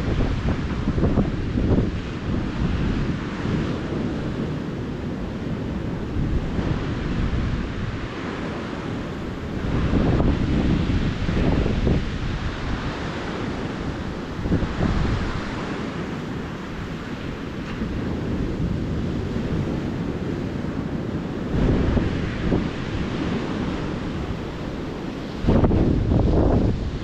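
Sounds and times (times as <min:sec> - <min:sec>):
ocean surf washing onto beach: 0:00.0 - 0:27.0
wind buffeting microphone: 0:00.0 - 0:27.0.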